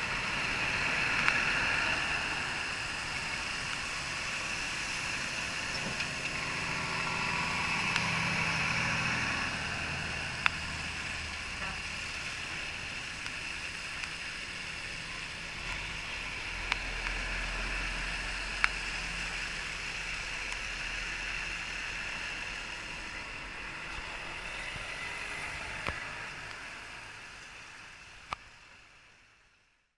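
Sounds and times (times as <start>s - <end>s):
truck diesel engine rumble: 0.0s - 28.0s
tyres hissing on wet road: 0.0s - 29.5s.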